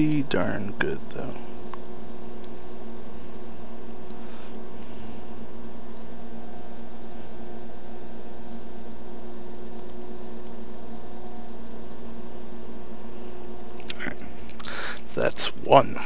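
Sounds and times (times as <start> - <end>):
electrical hum and hiss: 0.0 - 16.0
faint constant tones: 0.0 - 16.0.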